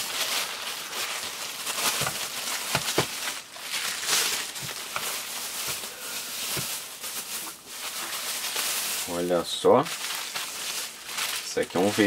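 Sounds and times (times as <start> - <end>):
paper and plastic crinkling: 0.0 - 12.0.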